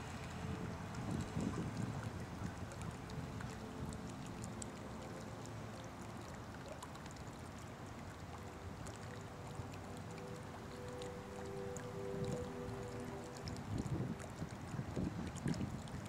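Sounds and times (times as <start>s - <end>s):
water trickling into pond: 0.0s - 16.0s.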